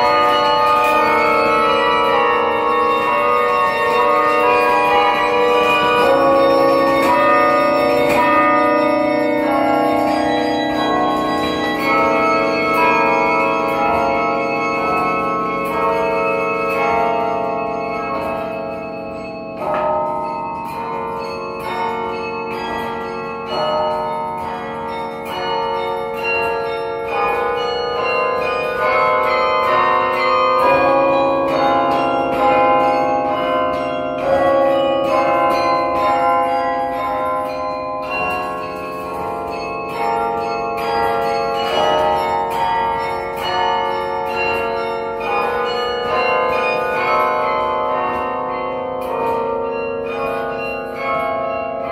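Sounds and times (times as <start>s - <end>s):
carillon bells ringing: 0.0s - 51.9s.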